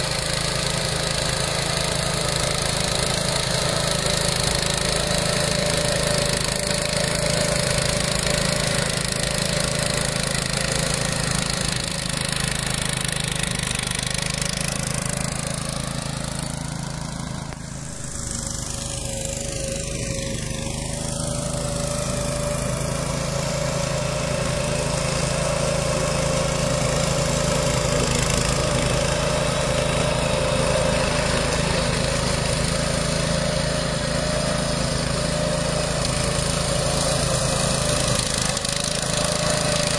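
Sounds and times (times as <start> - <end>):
mulcher cutting grass: 0.0 - 39.9
tractor engine running: 0.1 - 39.9.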